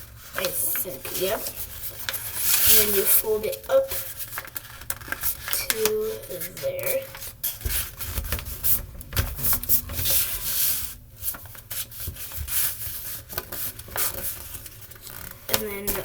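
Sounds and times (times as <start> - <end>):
paper rustling and creasing: 0.0 - 16.0.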